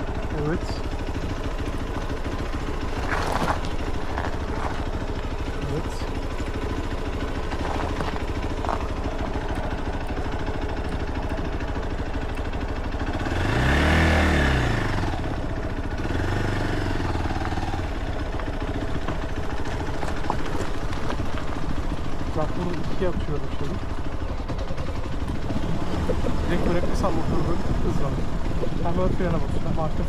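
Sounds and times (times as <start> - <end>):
motorcycle engine running: 0.0 - 30.0
road and wind noise: 0.0 - 30.0.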